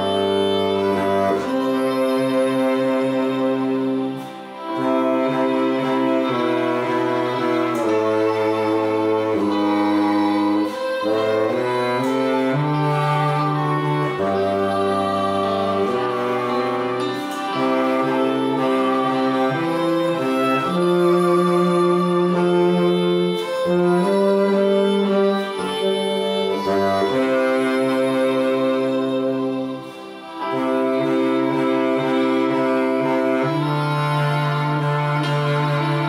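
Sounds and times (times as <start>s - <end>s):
bass saxophone playing hymn: 0.0s - 36.0s.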